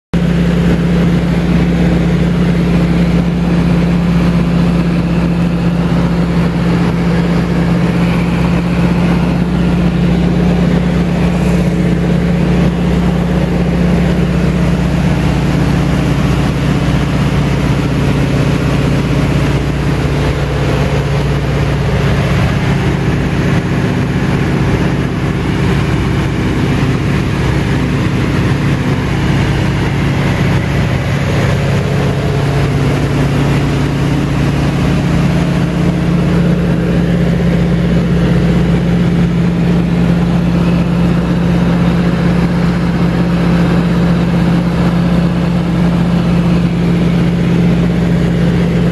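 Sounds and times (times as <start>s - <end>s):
plane engine and propeller droning: 0.1s - 48.9s.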